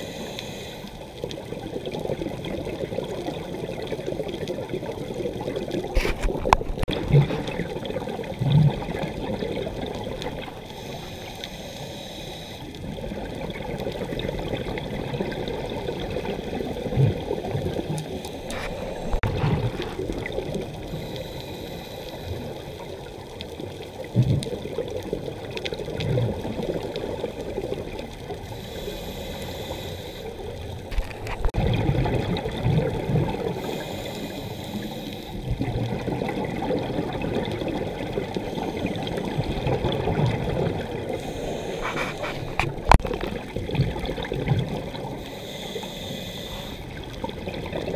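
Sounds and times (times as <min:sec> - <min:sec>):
underwater water noise: 0:00.0 - 0:47.9.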